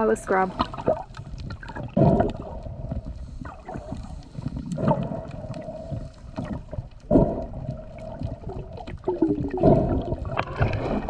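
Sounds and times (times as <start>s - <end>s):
underwater sloshing and bubbling: 0.0s - 11.0s.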